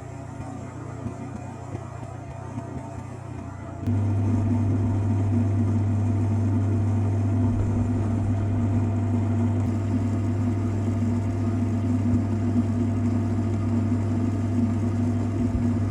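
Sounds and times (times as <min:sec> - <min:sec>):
lathe humming: 0:03.2 - 0:15.9.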